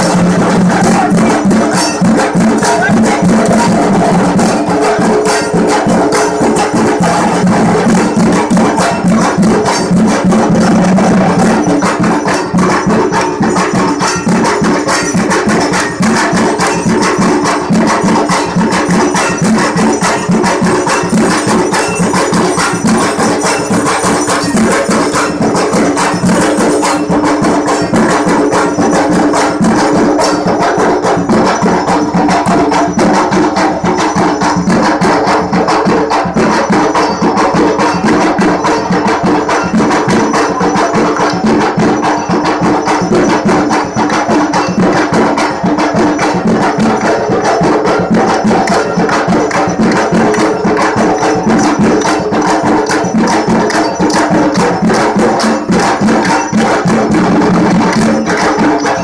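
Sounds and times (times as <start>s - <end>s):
drums beaten with sticks: 0.0s - 59.0s.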